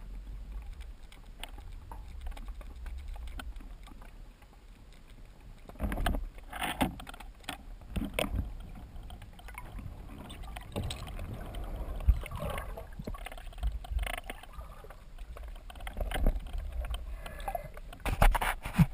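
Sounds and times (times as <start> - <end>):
knocks and swishes of swimming: 0.0 - 18.9
underwater water rumble: 0.0 - 18.9.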